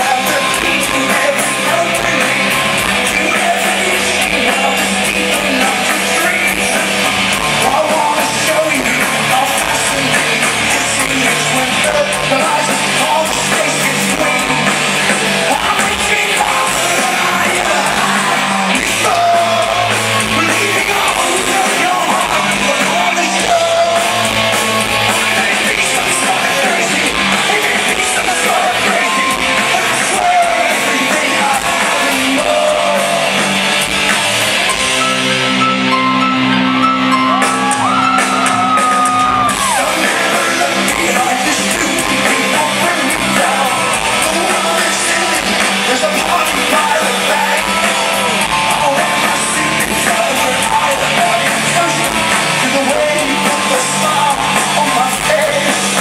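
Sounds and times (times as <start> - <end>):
man singing: 0.0 - 34.1, 37.3 - 56.0
rock band playing live: 0.0 - 56.0.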